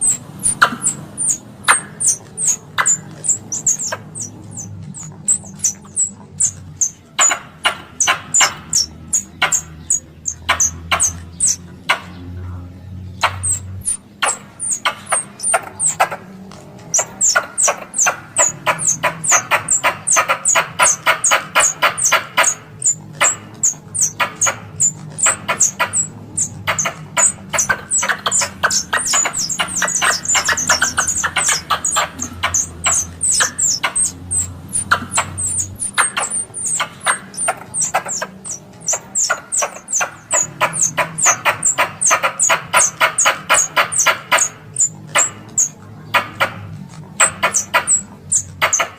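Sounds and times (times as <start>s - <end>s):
squirrel call high chirps: 0.0s - 12.2s, 13.2s - 48.9s.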